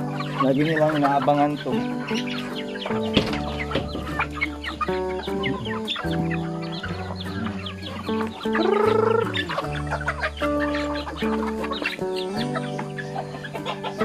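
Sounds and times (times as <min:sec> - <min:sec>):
background music with bass: 0:00.0 - 0:14.0
chickens clucking: 0:00.0 - 0:14.0.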